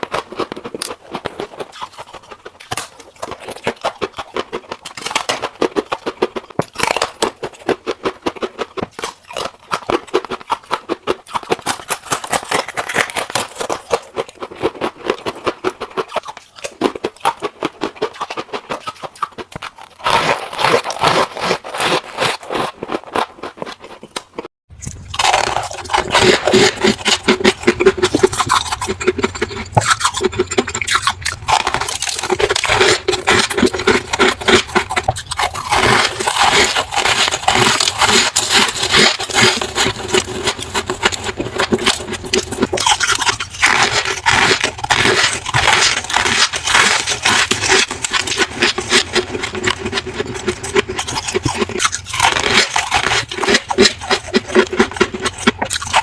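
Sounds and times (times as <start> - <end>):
freezer ice being scraped: 0.0 - 16.4, 19.6 - 24.0, 24.8 - 56.0.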